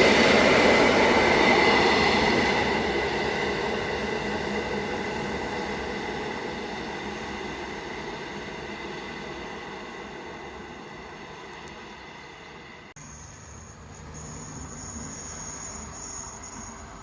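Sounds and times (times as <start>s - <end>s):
train rumble and wheel noise: 0.0s - 17.0s.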